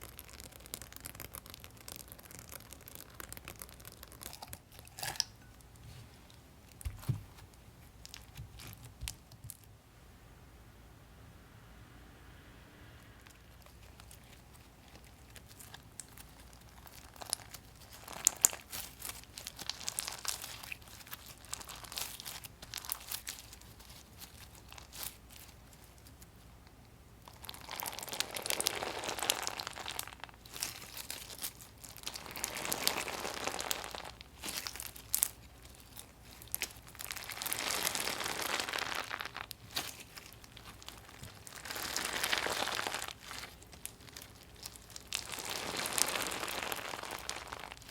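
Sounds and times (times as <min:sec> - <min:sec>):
crunchy slime crackling: 0:00.0 - 0:09.7, 0:13.2 - 0:47.9.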